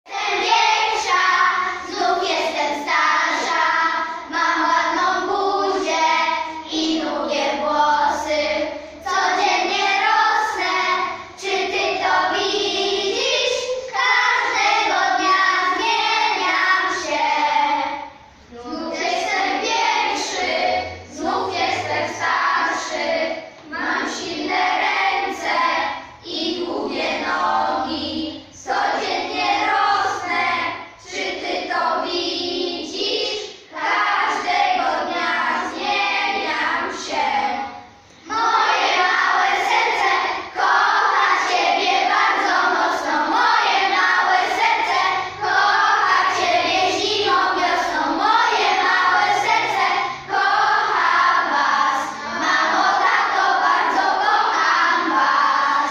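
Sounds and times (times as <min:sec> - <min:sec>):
children singing in unison: 0:00.1 - 0:55.9.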